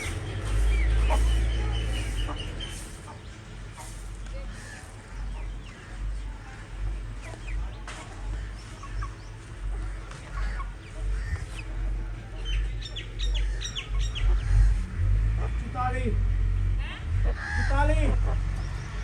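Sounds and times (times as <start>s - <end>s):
chickens clucking: 0.0s - 15.8s, 16.8s - 19.0s
steady low rumble: 0.0s - 19.0s.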